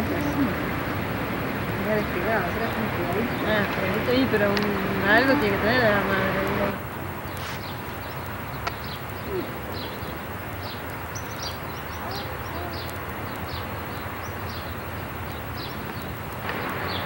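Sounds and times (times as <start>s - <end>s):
background hiss and low rumble: 0.0s - 17.0s
bird chirping: 0.0s - 17.0s.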